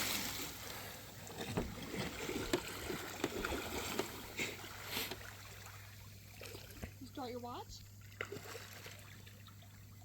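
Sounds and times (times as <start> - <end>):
water splashing and lapping: 0.0 - 10.0.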